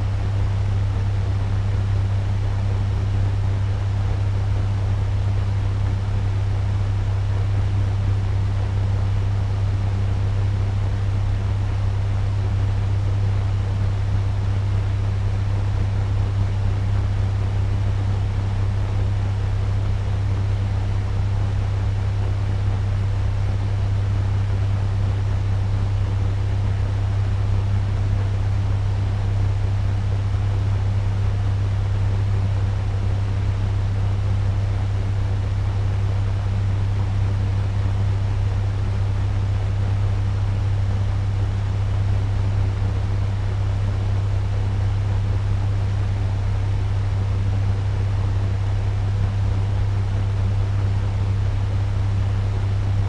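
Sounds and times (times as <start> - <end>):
fan low hum: 0.0 - 53.0.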